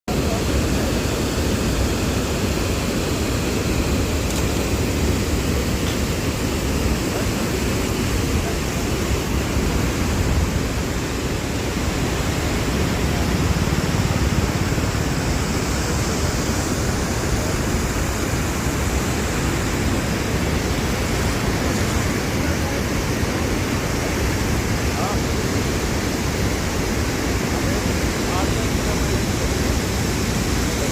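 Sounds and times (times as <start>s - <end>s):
water pouring over a dam: 0.1s - 30.9s.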